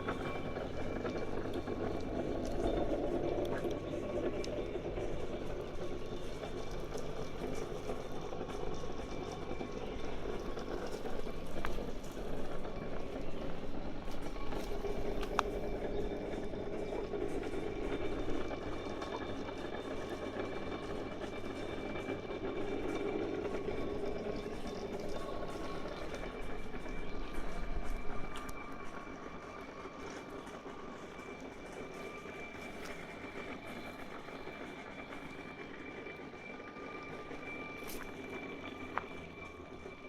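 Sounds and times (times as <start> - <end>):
cable car running on track: 0.0 - 40.0.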